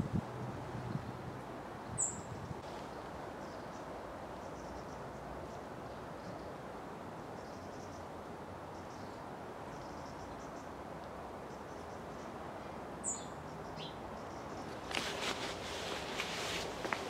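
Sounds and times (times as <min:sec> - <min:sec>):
background hiss: 0:01.5 - 0:17.0.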